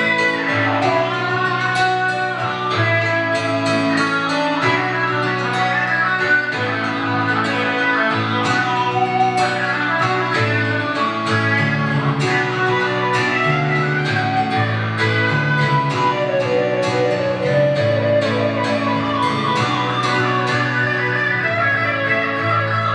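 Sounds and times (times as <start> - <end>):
guitar playing plucked notes: 0.0 - 22.9.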